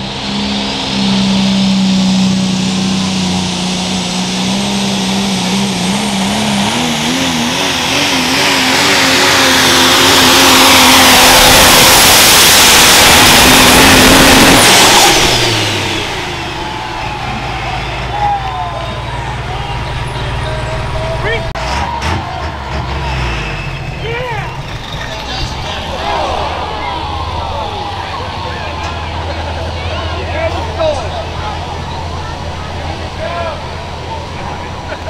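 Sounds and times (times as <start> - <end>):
truck engine at full throttle: 0.0 - 35.0.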